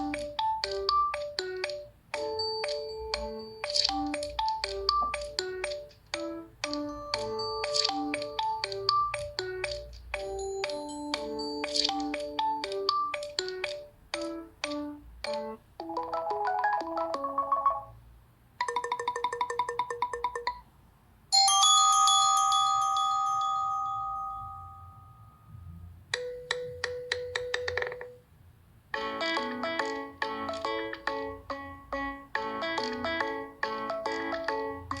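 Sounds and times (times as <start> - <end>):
phone ringtone melody: 0.0 - 18.0, 18.6 - 20.7, 21.4 - 25.6, 26.2 - 28.2, 29.0 - 35.0.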